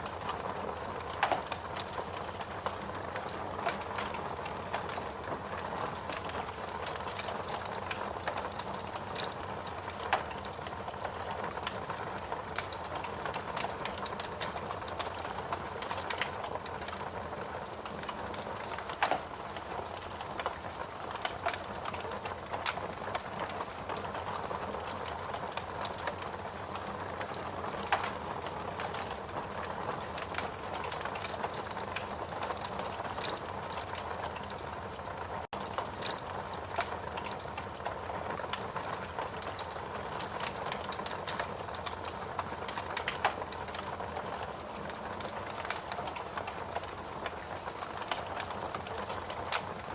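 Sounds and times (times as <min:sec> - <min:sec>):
logs crackling in fireplace: 0:00.0 - 0:49.9
loud pops of burning wood: 0:00.1 - 0:34.6, 0:35.5 - 0:49.8.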